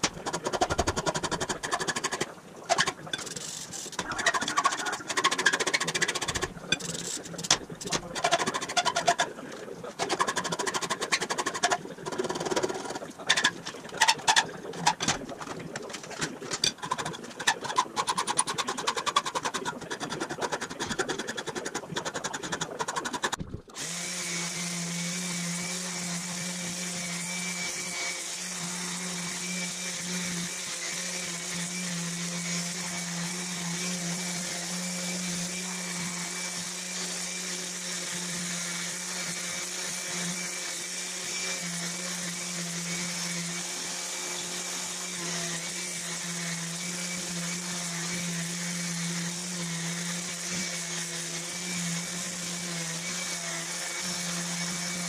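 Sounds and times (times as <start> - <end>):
hand filing metal: 0.0 - 9.3, 10.0 - 15.2, 16.0 - 55.0.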